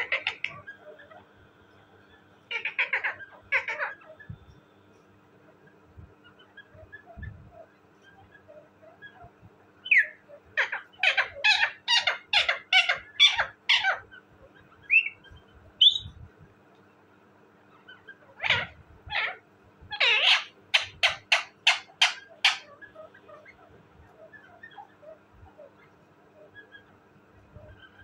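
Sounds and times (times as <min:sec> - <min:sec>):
parakeet chirps: 0:00.0 - 0:01.3, 0:02.0 - 0:04.5, 0:06.2 - 0:16.2, 0:17.7 - 0:27.0
parakeet calling: 0:00.0 - 0:01.4, 0:02.0 - 0:04.5, 0:05.6 - 0:16.2, 0:17.6 - 0:28.0.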